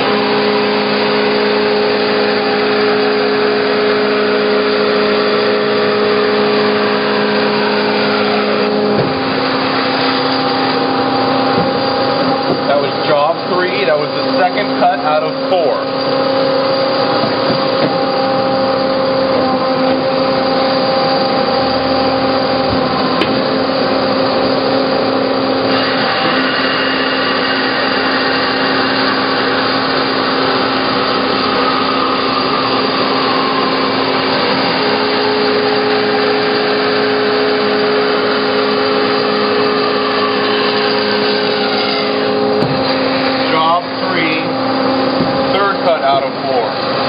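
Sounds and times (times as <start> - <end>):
bandsaw machine hum: 0.0 - 47.0.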